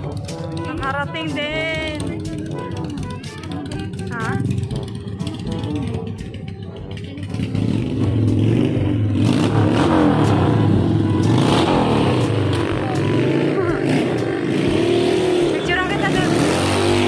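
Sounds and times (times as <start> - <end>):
vehicle engines revving: 0.0 - 17.0.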